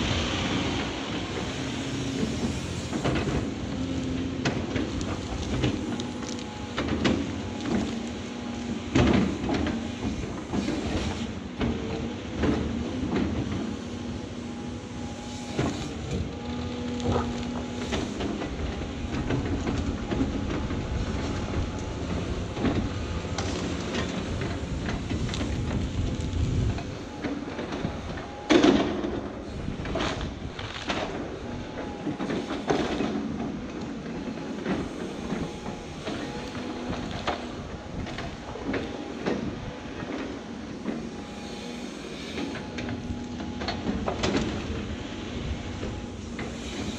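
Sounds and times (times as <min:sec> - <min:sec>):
excavator engine and hydraulics: 0:00.0 - 0:46.9
hydraulic whine: 0:00.0 - 0:46.9.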